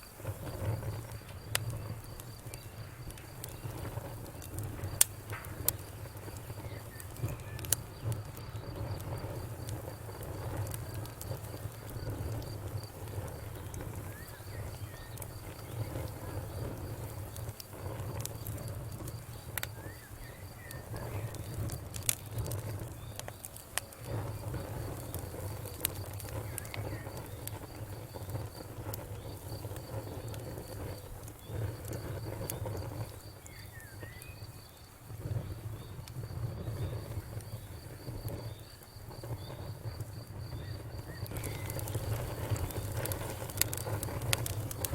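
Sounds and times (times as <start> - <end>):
high insect trill: 0.0 - 44.9
wood fire crackling: 0.0 - 44.9.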